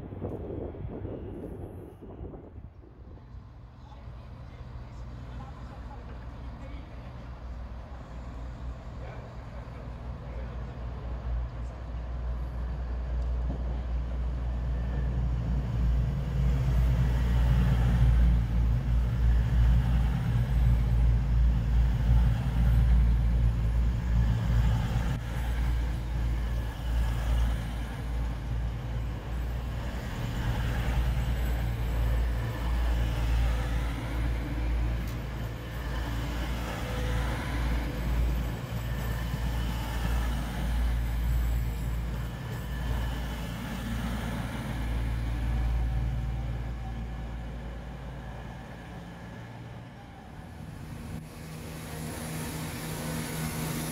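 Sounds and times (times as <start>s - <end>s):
diesel train engine rumbling: 0.0s - 53.9s.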